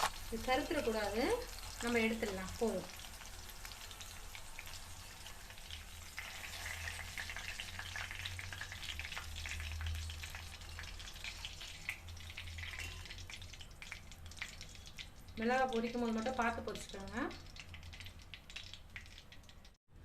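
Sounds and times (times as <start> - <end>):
chillies sizzling in hot oil: 0.0 - 19.8.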